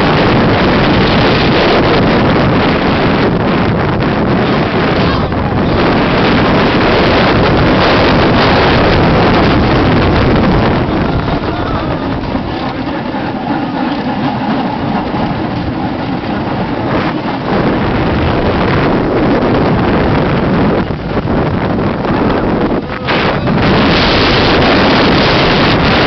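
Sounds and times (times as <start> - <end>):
roller coaster train on track: 0.0 - 26.0
wind on microphone: 0.0 - 26.0.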